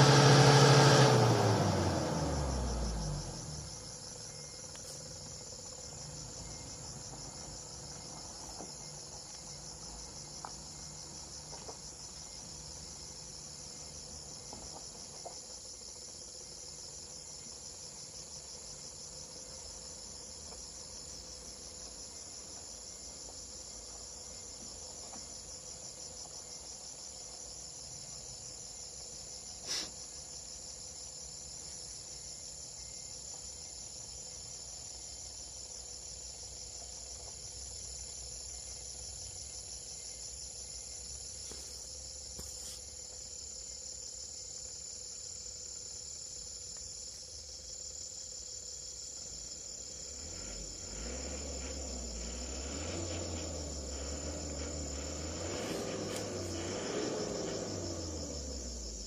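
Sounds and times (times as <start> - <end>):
insects trilling drone: 0.0 - 59.0.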